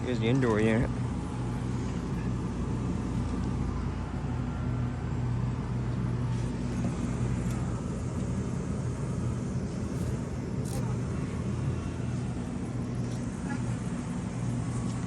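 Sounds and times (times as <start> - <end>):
furnace blower humming: 0.0 - 15.0.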